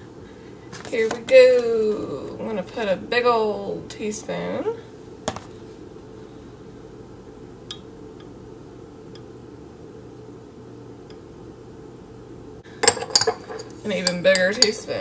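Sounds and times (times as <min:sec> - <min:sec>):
room tone hum: 0:00.0 - 0:15.0.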